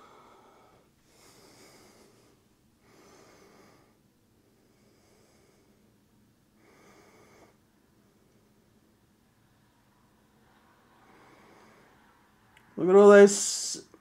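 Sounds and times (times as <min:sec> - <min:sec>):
soft breathing close to microphone: 0:00.0 - 0:09.0, 0:10.2 - 0:12.8.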